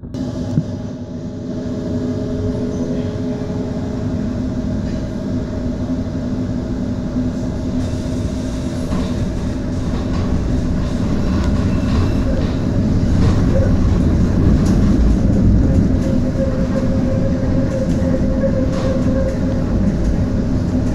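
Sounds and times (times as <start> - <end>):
tram wheels rumbling on rail: 0.0 - 20.9.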